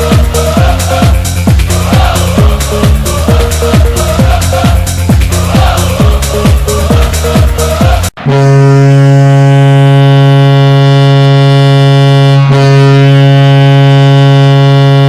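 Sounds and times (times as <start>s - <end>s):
low goal horn blast: 0.0s - 15.0s.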